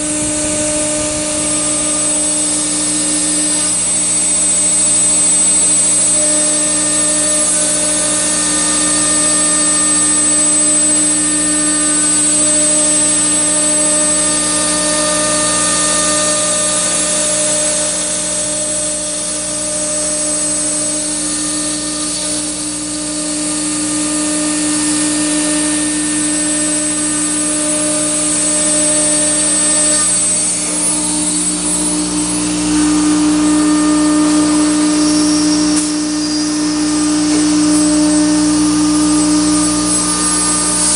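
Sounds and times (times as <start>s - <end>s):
cnc router spindle whine: 0.0s - 40.9s.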